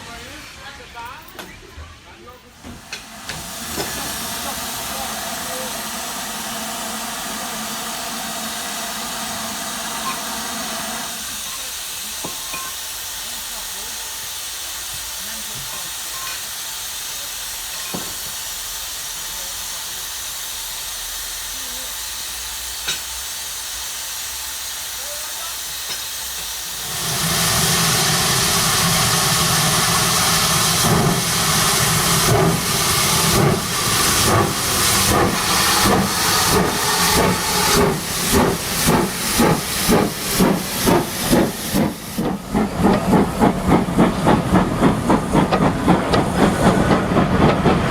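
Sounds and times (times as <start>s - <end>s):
loud rush of steam: 2.6s - 47.9s
steam hissing: 2.6s - 47.9s
steam locomotive exhaust chuffs: 2.6s - 47.9s.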